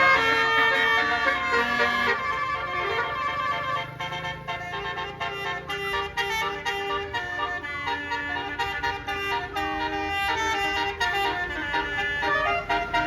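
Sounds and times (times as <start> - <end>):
engine rumble: 0.0 - 13.0
musical air horn melody: 0.0 - 13.0.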